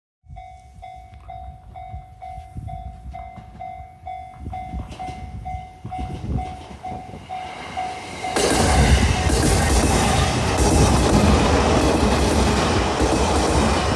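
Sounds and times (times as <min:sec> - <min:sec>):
level-crossing warning bell: 0:00.2 - 0:13.9
train arriving: 0:00.3 - 0:13.9.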